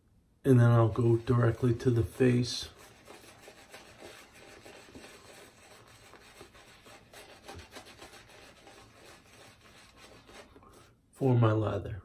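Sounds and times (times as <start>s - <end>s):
shaving brush rubbing on soap: 0.7s - 10.9s.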